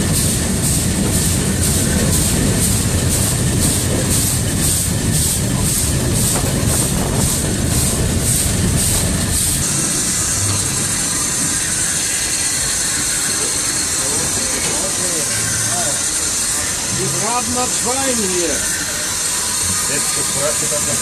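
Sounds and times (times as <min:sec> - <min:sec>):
steam hissing: 0:00.0 - 0:21.0
steam locomotive chuffing: 0:00.0 - 0:21.0.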